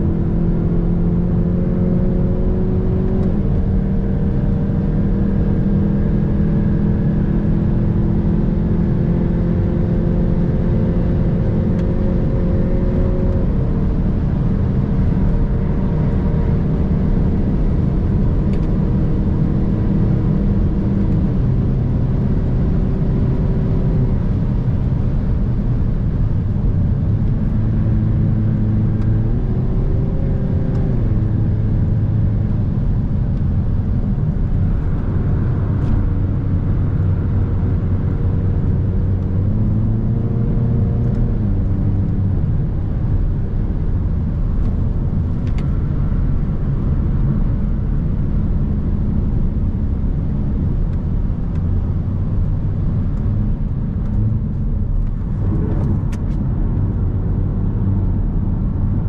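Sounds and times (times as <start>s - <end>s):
car engine revving: 0.0s - 59.0s
road and tyre noise: 0.0s - 59.0s.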